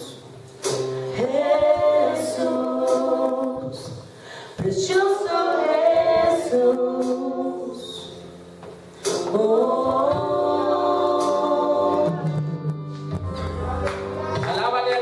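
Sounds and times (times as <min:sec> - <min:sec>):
congregation singing a worship song: 0:00.0 - 0:15.0.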